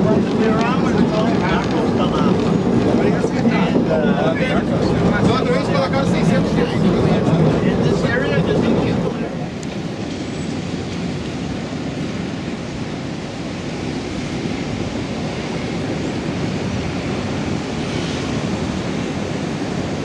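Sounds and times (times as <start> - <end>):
outdoor street ambience: 0.0 - 20.0.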